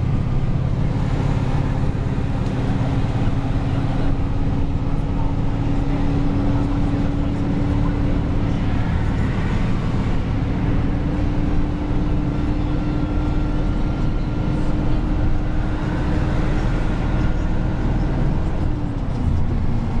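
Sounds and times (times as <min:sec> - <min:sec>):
diesel truck engine cruising: 0:00.0 - 0:20.0
road noise: 0:00.0 - 0:20.0.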